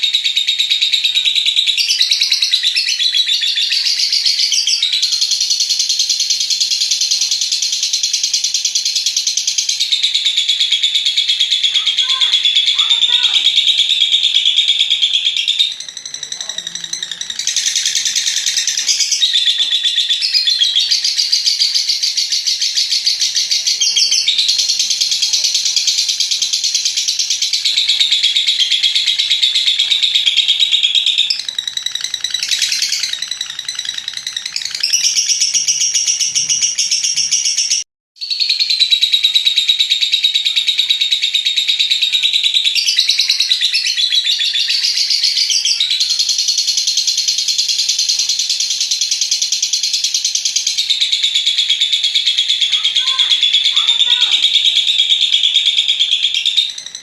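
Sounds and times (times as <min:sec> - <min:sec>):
lovebird rapid chatter: 0:00.0 - 0:57.0.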